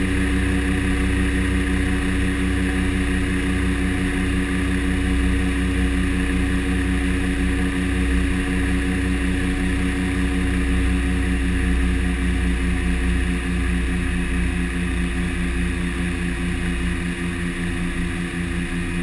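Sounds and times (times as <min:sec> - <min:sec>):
turboprop cabin drone: 0:00.0 - 0:19.0.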